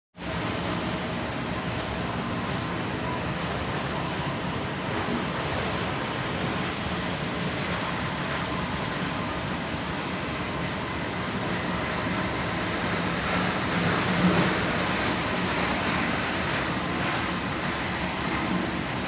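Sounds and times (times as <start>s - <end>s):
factory machinery running: 0.2s - 19.0s.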